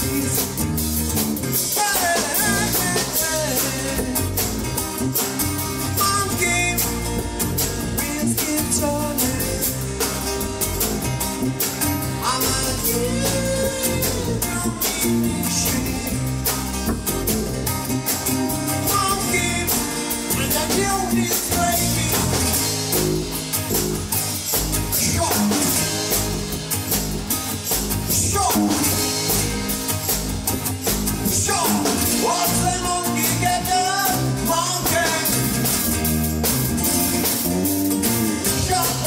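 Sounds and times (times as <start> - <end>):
drum kit: 0.0 - 39.0
guitar: 0.0 - 39.0.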